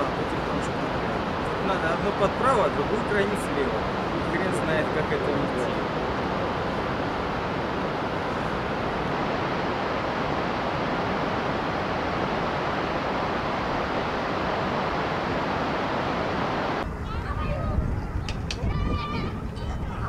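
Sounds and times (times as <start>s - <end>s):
river rapids rushing: 0.0s - 16.8s.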